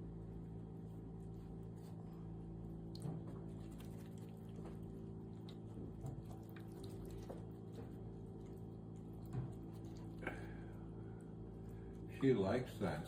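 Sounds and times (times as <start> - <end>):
pump hum: 0.0 - 13.0.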